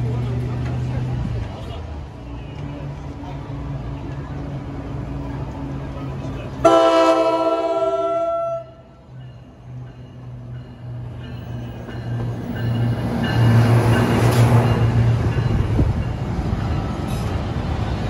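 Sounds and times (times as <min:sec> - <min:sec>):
diesel locomotive engine drone: 0:00.0 - 0:18.0
passenger cars rolling by: 0:00.0 - 0:18.0.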